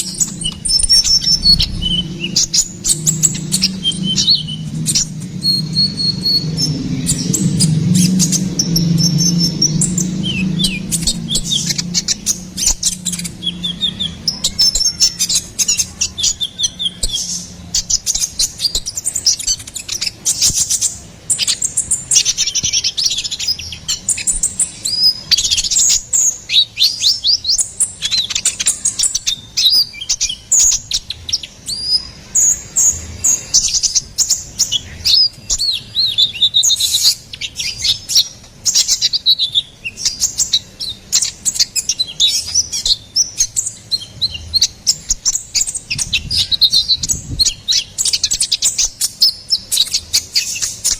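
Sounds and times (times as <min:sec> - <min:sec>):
bird singing chirps and trills: 0:00.0 - 0:50.9.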